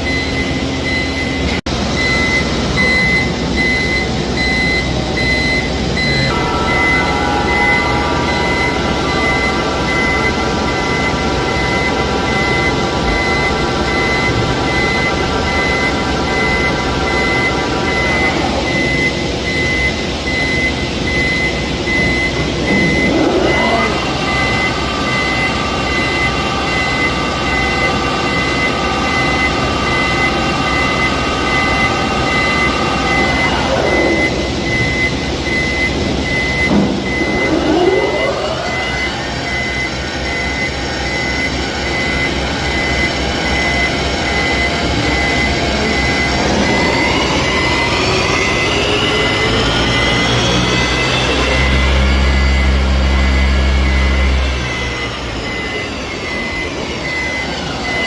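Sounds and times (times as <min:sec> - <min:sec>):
boring machine drive whine: 0:00.0 - 0:58.0
high repeating beep: 0:00.0 - 0:58.0.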